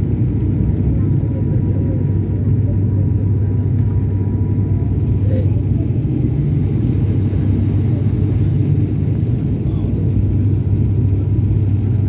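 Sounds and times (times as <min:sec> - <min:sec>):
airliner engine and airflow drone: 0:00.0 - 0:12.0.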